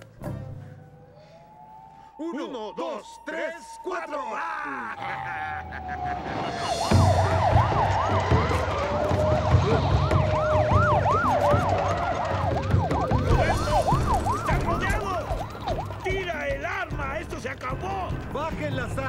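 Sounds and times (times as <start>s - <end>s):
police siren wail: 0.0s - 19.0s
police siren yelp: 0.4s - 19.0s.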